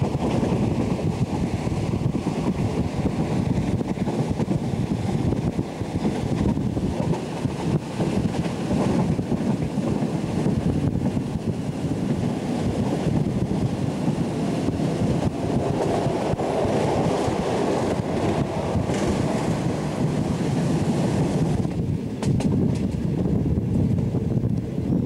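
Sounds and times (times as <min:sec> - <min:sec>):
train rumbling: 0:00.0 - 0:25.0
wind rushing over microphone: 0:00.0 - 0:25.0.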